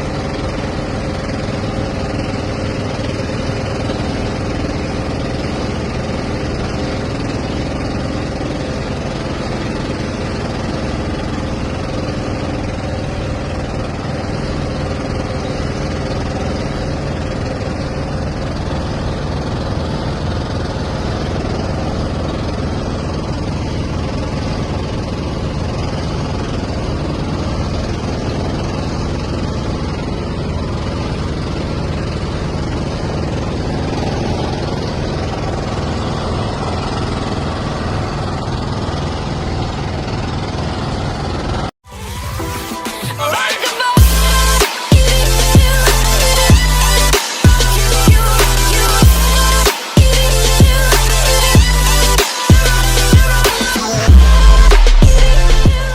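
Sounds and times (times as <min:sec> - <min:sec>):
engine running: 0:00.0 - 0:55.9.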